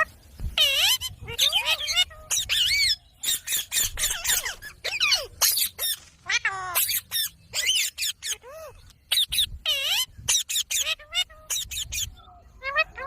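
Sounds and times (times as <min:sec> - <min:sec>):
parrot squawking and chattering: 0:00.0 - 0:13.0.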